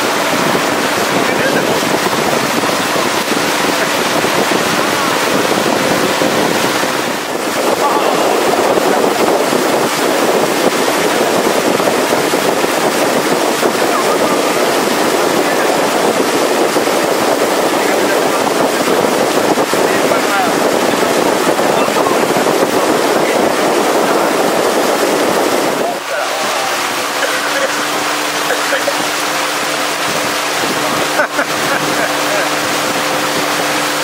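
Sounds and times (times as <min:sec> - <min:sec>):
motorboat engine: 0:00.0 - 0:34.0
water rushing past hull: 0:00.0 - 0:34.0
wind on microphone: 0:00.0 - 0:34.0.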